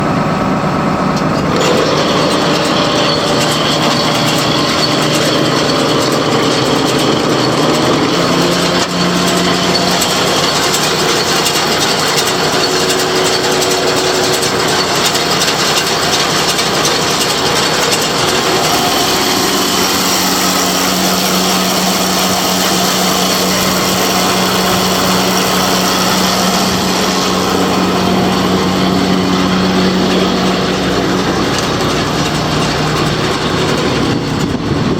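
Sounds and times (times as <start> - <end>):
tractor and baler droning: 0.0 - 34.9.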